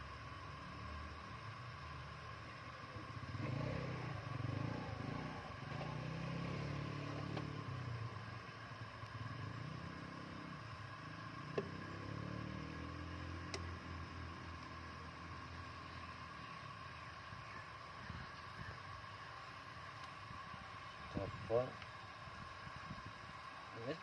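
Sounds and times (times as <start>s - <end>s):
thin whine: 0.0s - 24.0s.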